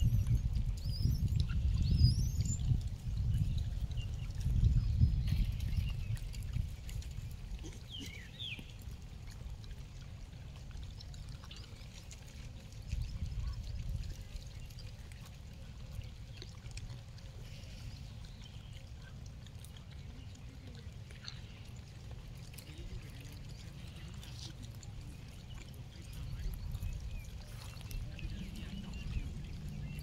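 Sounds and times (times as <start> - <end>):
wind rumbling on microphone: 0.0 - 19.3, 21.3 - 30.0.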